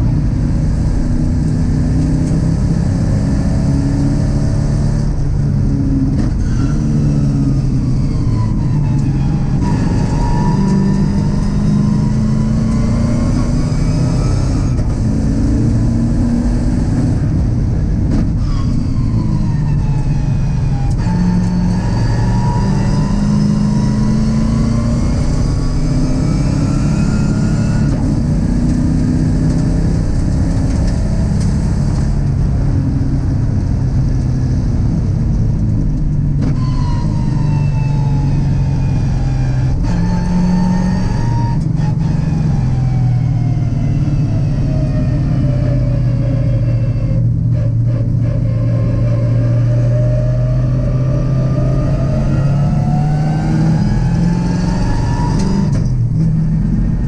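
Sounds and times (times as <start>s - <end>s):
race car engine revving: 0.0s - 57.0s
wind and road noise: 0.0s - 57.0s.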